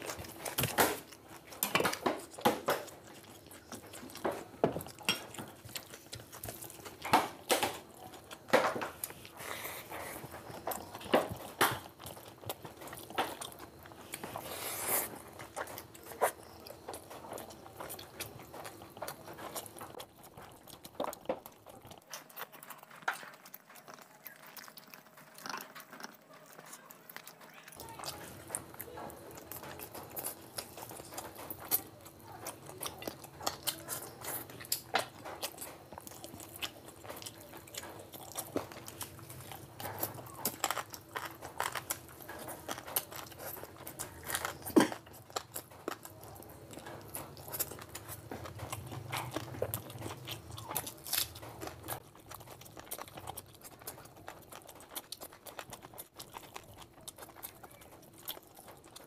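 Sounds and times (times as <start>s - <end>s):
man chewing food: 0.0s - 59.0s.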